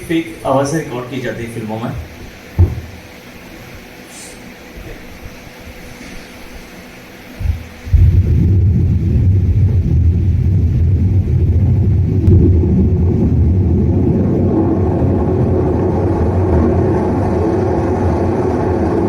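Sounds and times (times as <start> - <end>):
loud low steady rumble: 0.0 - 19.0.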